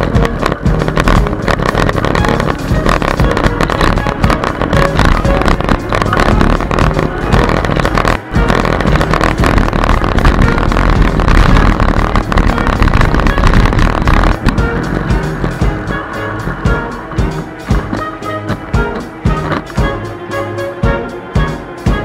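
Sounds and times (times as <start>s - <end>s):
bicycle road rumble: 0.0s - 22.0s
wind on microphone: 0.0s - 22.0s.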